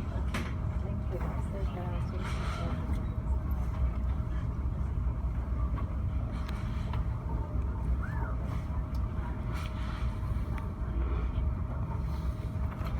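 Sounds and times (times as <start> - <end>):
faint constant hum: 0.0 - 12.9
ferry engines droning: 0.0 - 12.9.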